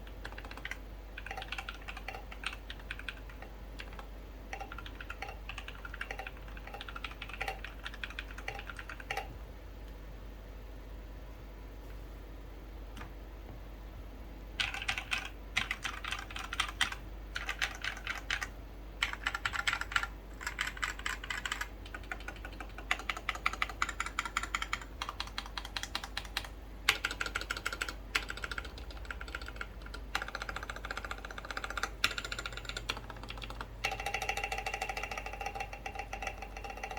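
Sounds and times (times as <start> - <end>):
typing on mechanical keyboard: 0.0 - 9.3, 14.6 - 36.9
low background hum: 0.0 - 36.9.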